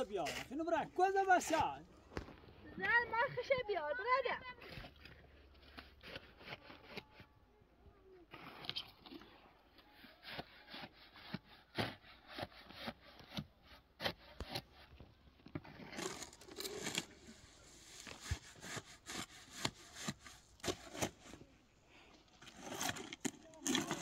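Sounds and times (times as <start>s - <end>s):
scraping and rubbing: 0.0s - 1.8s, 4.1s - 7.3s, 8.2s - 21.5s, 22.3s - 24.0s.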